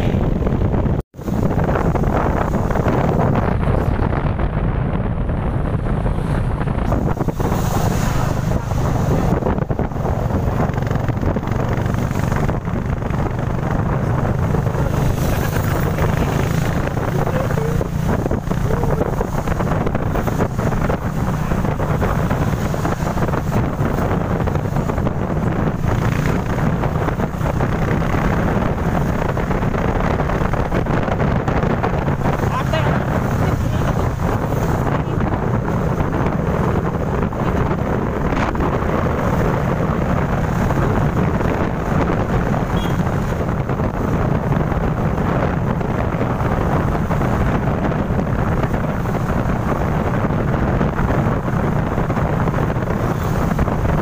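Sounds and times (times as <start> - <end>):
vehicle low rumble: 0.0 - 54.0
wind buffeting microphone: 0.0 - 54.0.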